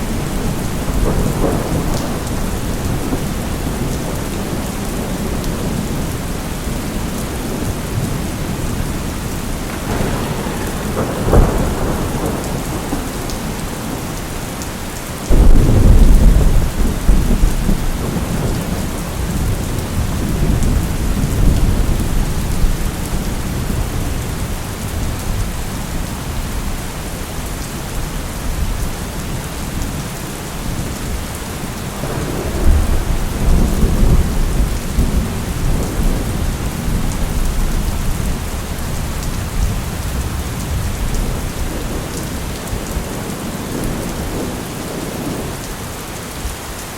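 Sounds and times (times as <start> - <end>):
thunder rumbling: 0.0 - 25.7, 31.8 - 45.8
steady rainfall: 0.0 - 46.9.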